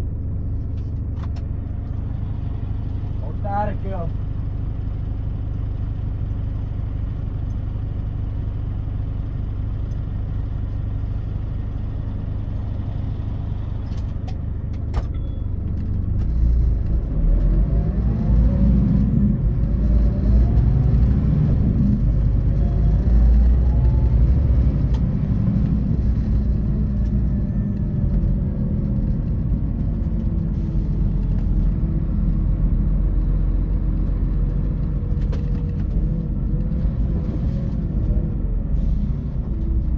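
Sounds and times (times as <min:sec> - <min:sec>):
coach diesel engine drone: 0:00.0 - 0:39.9.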